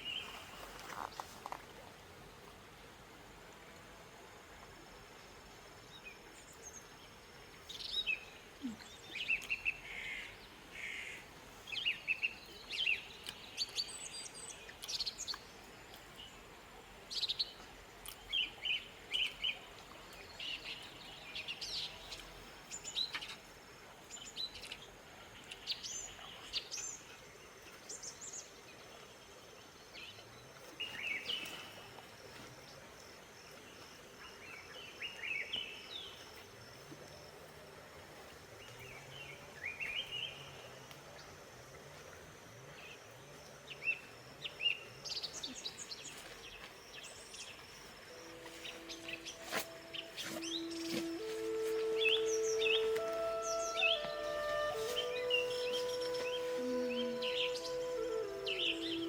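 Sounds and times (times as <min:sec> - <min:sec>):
small songbirds chirping: 0:00.0 - 0:01.4, 0:04.7 - 0:41.4, 0:42.0 - 0:59.0
faint background hiss: 0:00.0 - 0:59.0.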